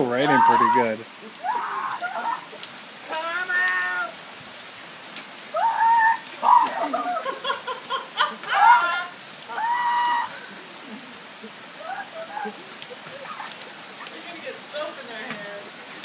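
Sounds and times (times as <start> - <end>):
voices calling out: 0.0 - 4.4, 5.4 - 16.0
rain pattering: 0.0 - 16.0.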